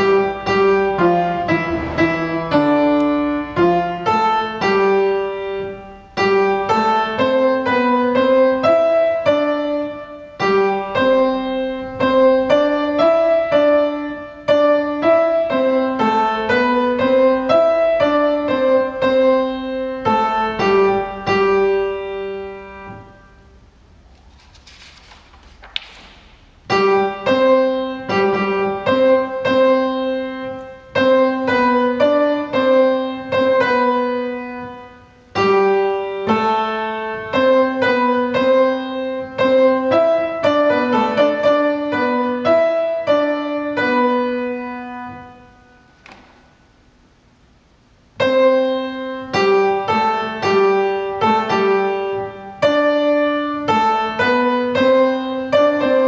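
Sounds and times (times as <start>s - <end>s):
slow piano chords: 0.0s - 24.5s, 25.4s - 56.0s.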